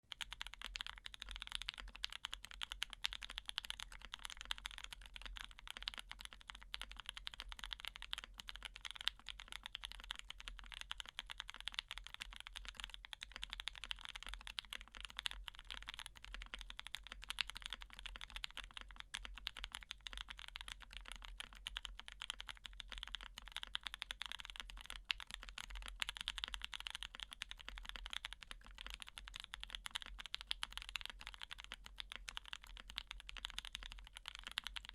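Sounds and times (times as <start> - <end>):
fast mechanical keyboard typing: 0.0 - 34.9.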